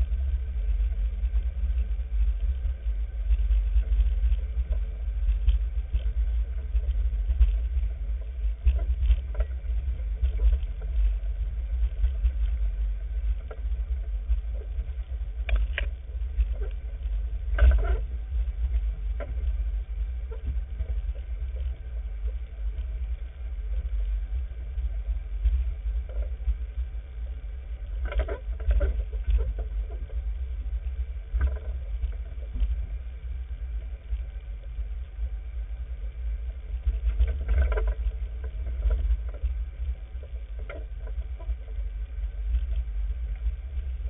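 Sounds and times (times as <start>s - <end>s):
off-road vehicle rumbling: 0.0s - 44.0s.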